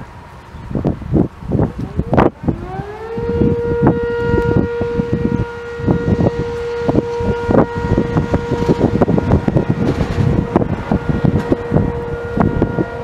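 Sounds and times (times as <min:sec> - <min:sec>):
wind gusting on microphone: 0:00.0 - 0:13.0
warning siren steady tone: 0:01.5 - 0:13.0.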